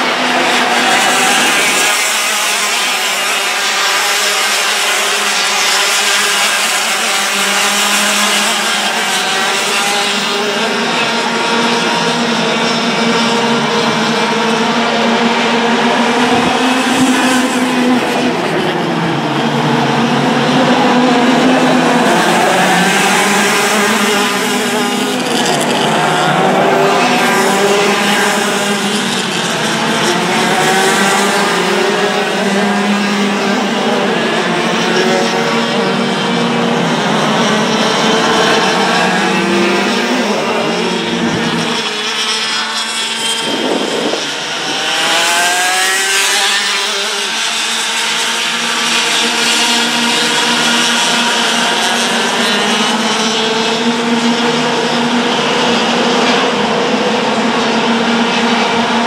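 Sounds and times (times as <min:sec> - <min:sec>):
go-kart engines at high revs: 0:00.0 - 0:59.0.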